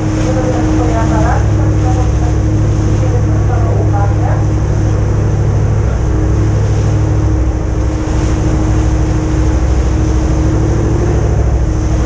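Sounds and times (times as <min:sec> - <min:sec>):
boat engine running: 0:00.0 - 0:12.0
water noise: 0:00.0 - 0:12.0
wind: 0:00.0 - 0:12.0.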